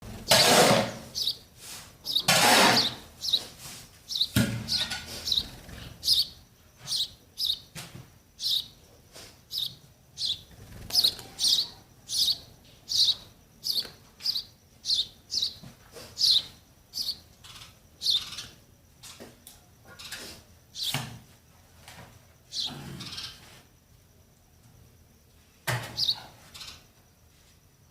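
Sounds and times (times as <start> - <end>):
nestlings cheeping: 0.0 - 21.5, 22.3 - 23.6, 25.5 - 27.0.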